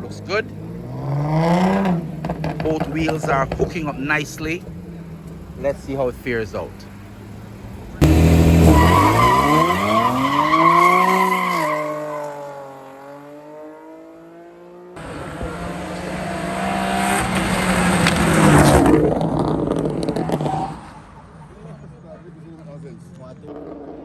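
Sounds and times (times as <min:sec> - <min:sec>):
drag race car engine accelerating: 0:00.0 - 0:05.8, 0:07.9 - 0:24.0.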